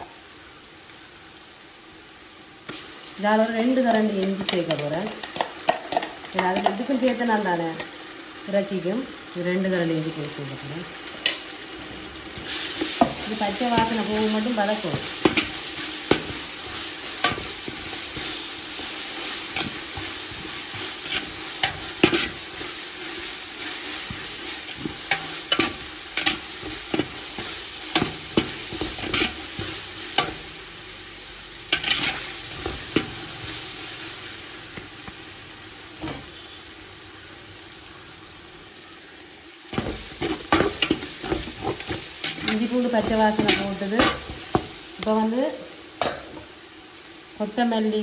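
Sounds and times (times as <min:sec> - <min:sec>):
onions sizzling in hot oil: 0:00.0 - 0:48.0.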